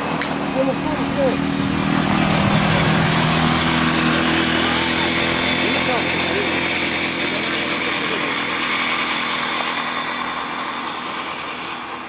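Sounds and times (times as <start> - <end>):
atv engine running hard: 0.0 - 12.0.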